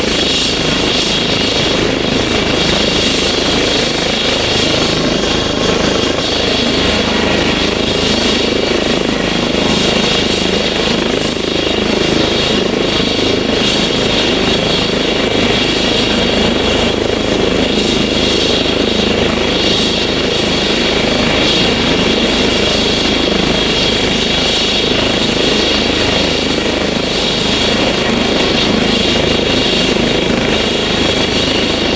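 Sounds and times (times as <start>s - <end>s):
helicopter rotor noise: 0.0s - 31.9s
helicopter turbine whine: 0.0s - 31.9s.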